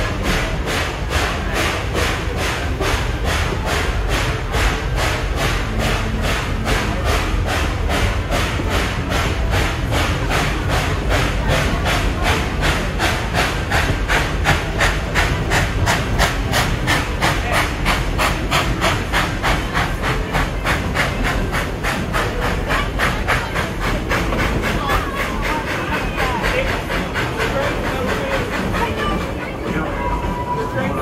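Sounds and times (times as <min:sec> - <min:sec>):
steam locomotive chuffing: 0:00.0 - 0:31.0
train rumbling: 0:00.0 - 0:31.0.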